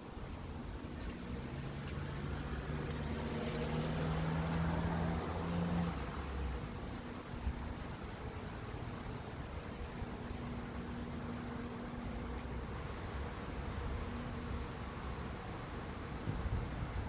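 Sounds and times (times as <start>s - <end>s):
motor vehicle passing: 0.9s - 15.6s.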